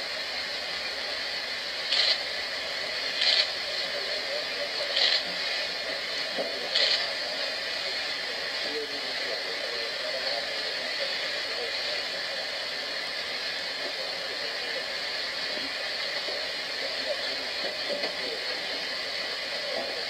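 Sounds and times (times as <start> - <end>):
faint indistinct voices: 0.0 - 20.0
steady hiss: 0.0 - 20.0.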